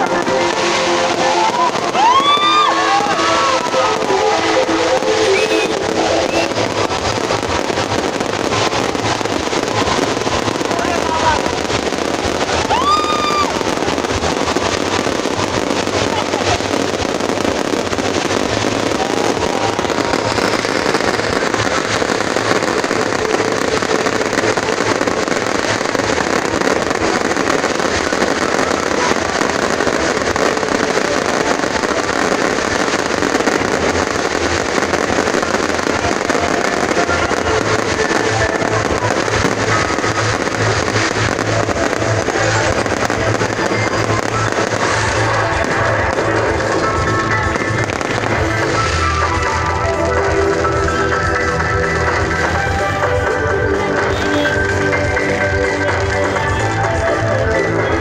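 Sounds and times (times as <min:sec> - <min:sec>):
fireworks bursting and crackling: 0:00.0 - 0:58.0
loud music with pulsing beat: 0:00.0 - 0:58.0.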